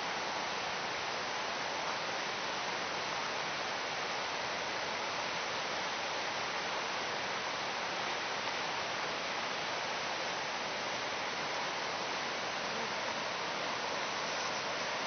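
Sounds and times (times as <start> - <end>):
river rushing in flood: 0.0 - 15.0.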